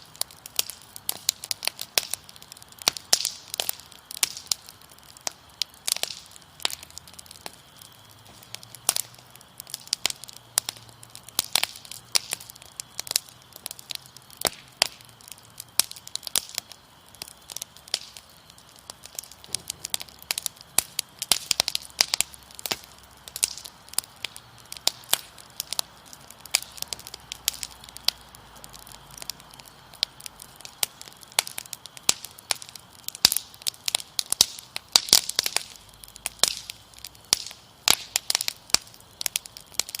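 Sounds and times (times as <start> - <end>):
crickets chirping: 0.0 - 40.0
wood fire crackling: 0.0 - 40.0.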